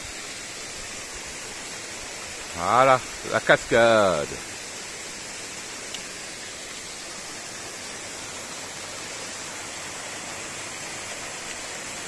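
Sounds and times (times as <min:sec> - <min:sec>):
waterfall splashing over rocks: 0:00.0 - 0:12.0.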